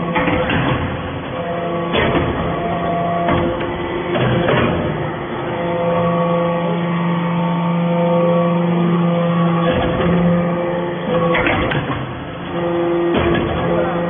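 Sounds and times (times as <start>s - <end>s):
press clanking: 0.0s - 6.7s, 9.3s - 14.0s
hydraulic press humming: 0.0s - 14.0s.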